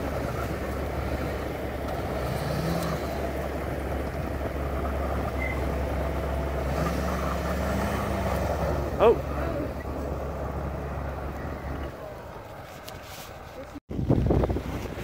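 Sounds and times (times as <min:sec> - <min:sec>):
pickup truck engine running: 0:00.0 - 0:15.0
tractor engine under load: 0:00.0 - 0:15.0.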